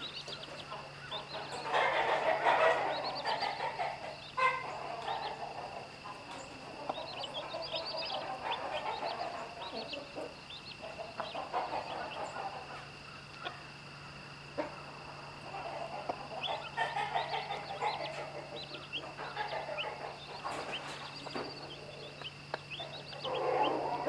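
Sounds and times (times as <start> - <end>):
hen clucking: 0.0 - 13.9, 14.5 - 24.0
chicks peeping: 0.0 - 24.0.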